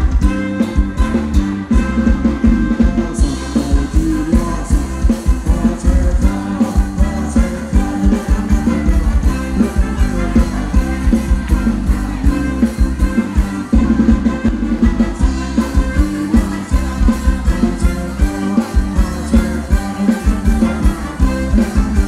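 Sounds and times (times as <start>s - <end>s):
live band dance music: 0.0s - 22.0s
steady drum beat: 0.0s - 22.0s.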